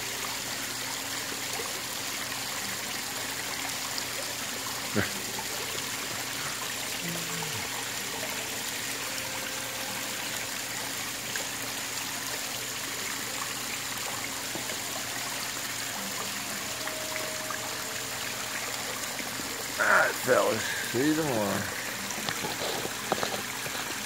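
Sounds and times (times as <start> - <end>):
waterfall trickling into pond: 0.0 - 24.0.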